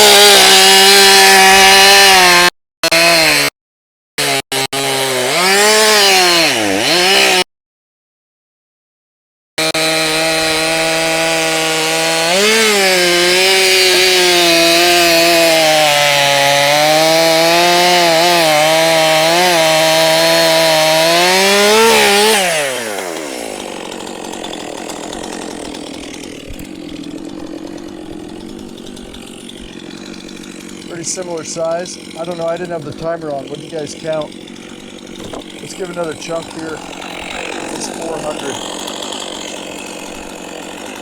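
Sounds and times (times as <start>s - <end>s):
chainsaw cutting wood: 0.0s - 3.6s, 4.2s - 7.5s, 9.6s - 41.0s.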